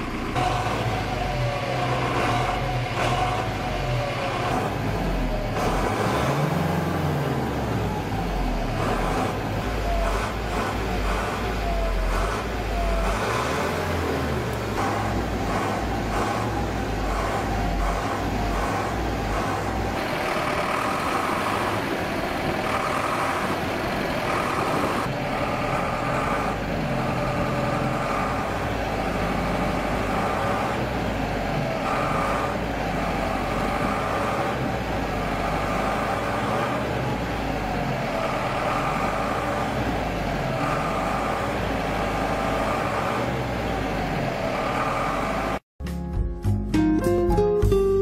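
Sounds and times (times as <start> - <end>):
van engine running: 0.0 - 45.7.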